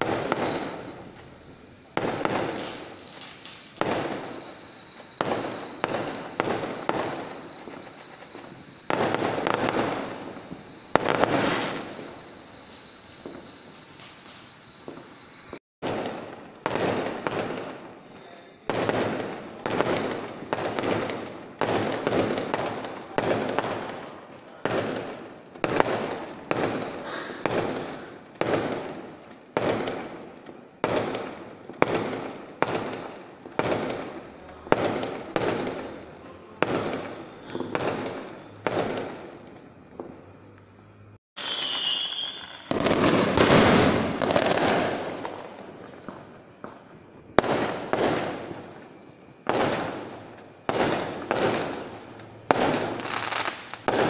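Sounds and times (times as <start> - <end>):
firework whistle: 0.0 - 25.0, 25.6 - 28.9, 36.6 - 39.2, 41.4 - 54.0
fireworks bangs: 0.0 - 54.0.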